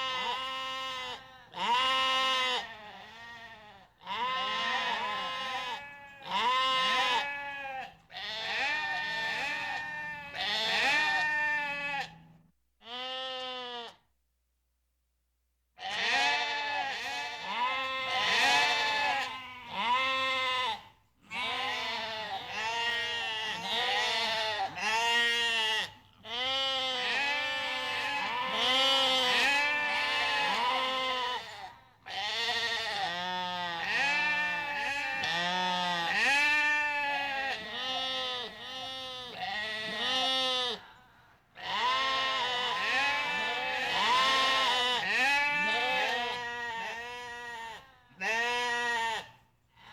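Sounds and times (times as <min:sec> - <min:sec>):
goats bleating: 0:00.0 - 0:12.2, 0:15.8 - 0:40.8, 0:41.6 - 0:49.4.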